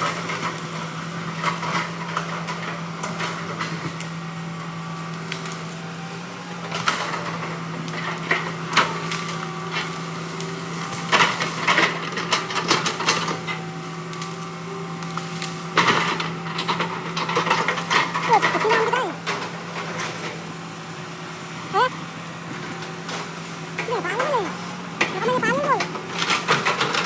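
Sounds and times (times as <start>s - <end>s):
heavy machine engine humming: 0.2s - 27.0s.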